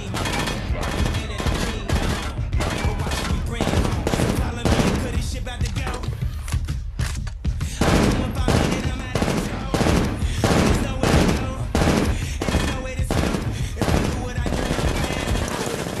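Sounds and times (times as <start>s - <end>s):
rifle firing rapidly: 0.0s - 6.0s, 7.7s - 16.0s.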